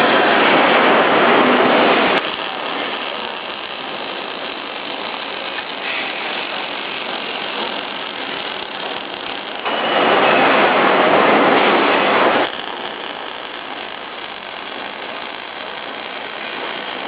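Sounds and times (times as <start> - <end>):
noisy machine: 0.0 - 17.0.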